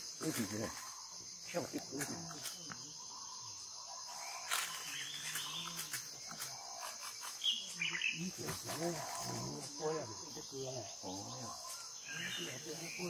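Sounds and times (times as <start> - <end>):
forest insects droning: 0.0 - 13.0.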